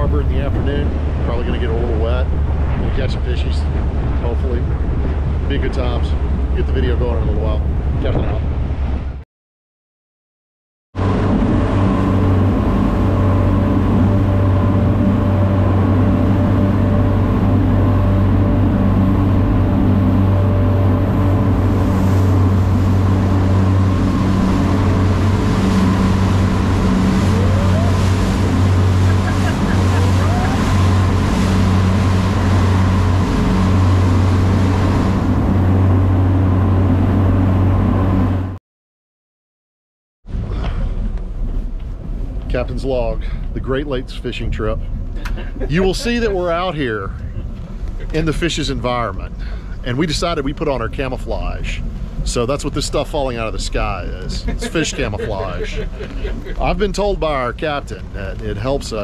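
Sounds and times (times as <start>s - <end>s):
boat engine drone: 0.0s - 9.2s, 11.0s - 38.6s, 40.3s - 59.0s
water rushing from wake: 0.0s - 9.2s, 11.0s - 38.6s, 40.3s - 59.0s
wind: 0.0s - 9.2s, 11.0s - 38.6s, 40.2s - 59.0s.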